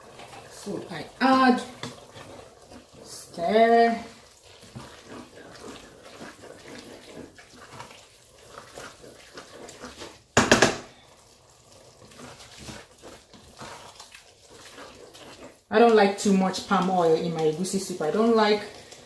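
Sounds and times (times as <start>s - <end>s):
wooden spatula stirring soup in pot: 0.0s - 19.0s.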